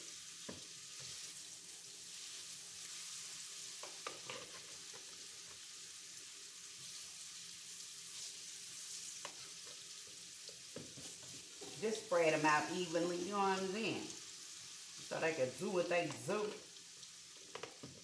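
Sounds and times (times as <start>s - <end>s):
food sizzling in frying pan: 0.0s - 18.0s.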